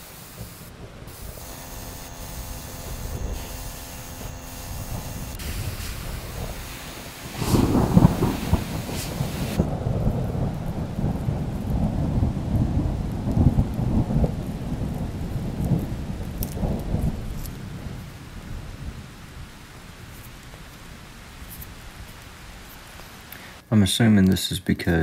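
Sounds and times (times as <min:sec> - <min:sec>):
thunder rumbling: 0:00.0 - 0:22.6.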